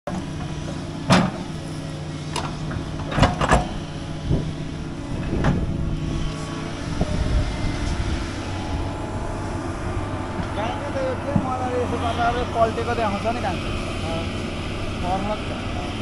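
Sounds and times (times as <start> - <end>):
excavator diesel engine running: 0.1 - 16.0.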